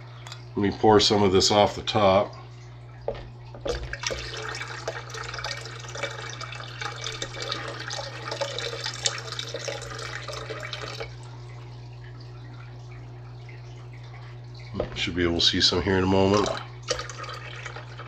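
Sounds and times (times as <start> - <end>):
low hum: 0.0 - 17.1
water pouring into a tank: 0.3 - 18.0.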